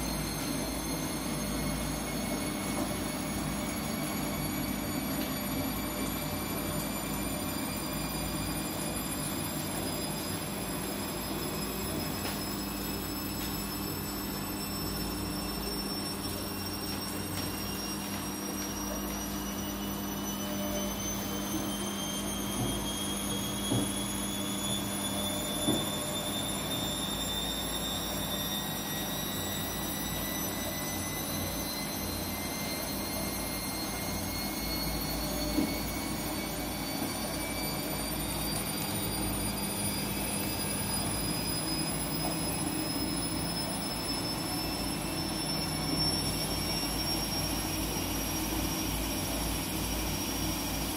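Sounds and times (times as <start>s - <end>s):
washing machine humming and rumbling: 0.0s - 50.9s.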